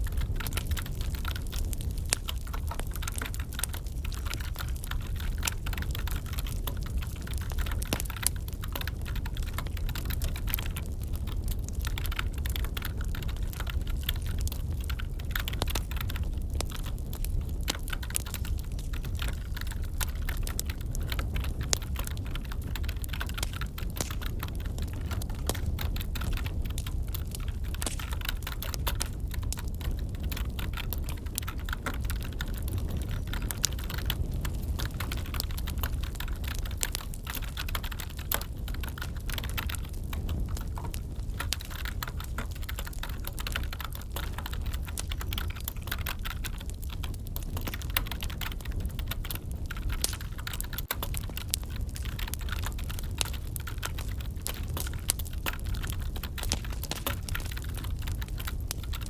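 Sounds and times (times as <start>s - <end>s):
low steady rumble: 0.0s - 59.0s
wood fire crackling: 0.0s - 59.0s.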